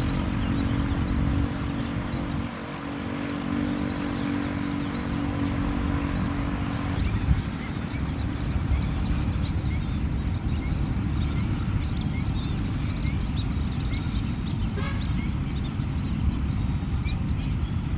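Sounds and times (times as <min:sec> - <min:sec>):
high chirping bird calls: 0:00.0 - 0:17.9
steady low rumble: 0:00.0 - 0:17.9.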